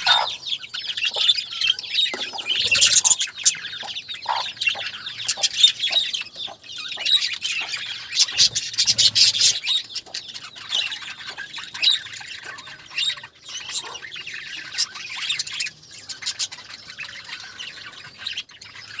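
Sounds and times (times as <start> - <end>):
budgerigars chattering: 0.0 - 19.0.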